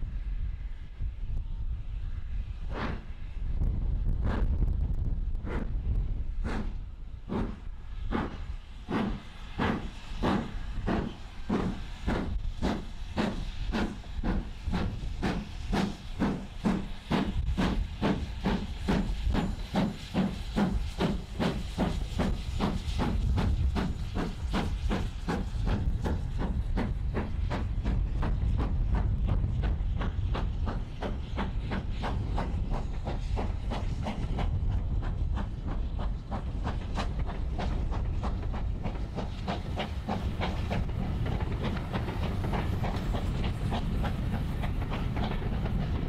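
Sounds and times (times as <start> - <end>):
steam hiss: 0.0 - 46.0
steam locomotive exhaust beats: 0.0 - 46.0
train rolling rumble: 0.0 - 46.0.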